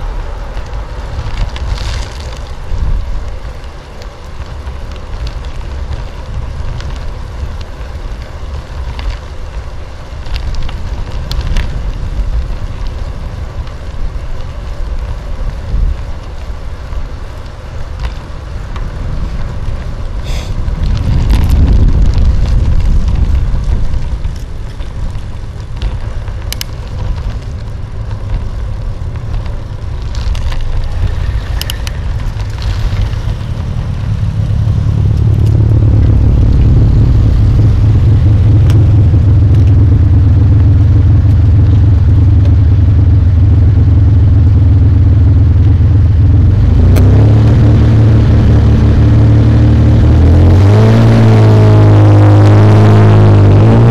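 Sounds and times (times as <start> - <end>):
wind rumbling on microphone: 0.0 - 53.9.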